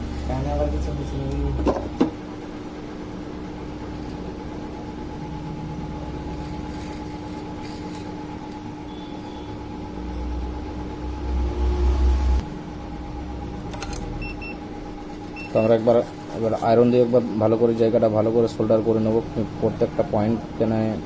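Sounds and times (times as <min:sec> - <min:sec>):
hot-air blower fan hum: 0:00.0 - 0:21.0.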